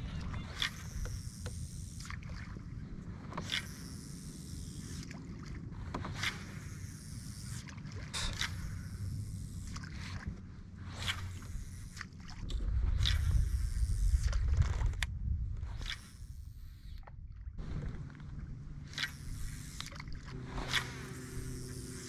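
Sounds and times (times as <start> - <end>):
low steady rumble: 0.0 - 22.0
water slapping against hull: 0.0 - 22.0.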